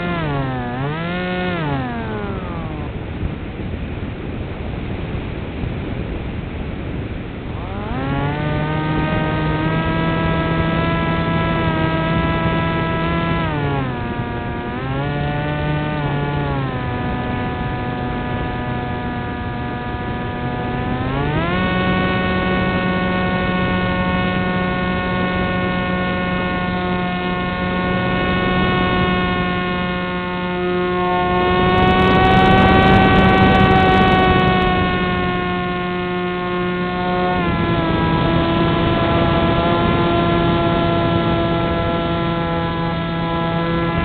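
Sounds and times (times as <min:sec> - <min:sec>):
model aircraft motor whine: 0:00.0 - 0:03.6, 0:07.3 - 0:44.0.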